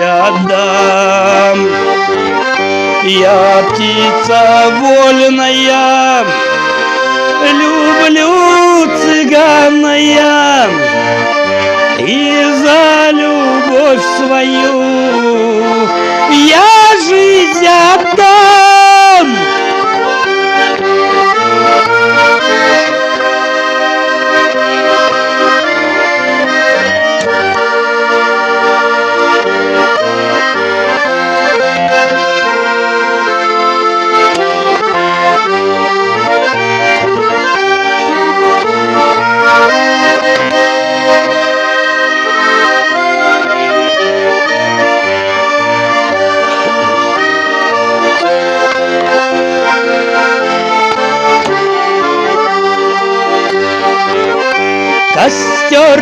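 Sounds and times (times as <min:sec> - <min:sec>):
accordion playing: 0:00.0 - 0:56.0.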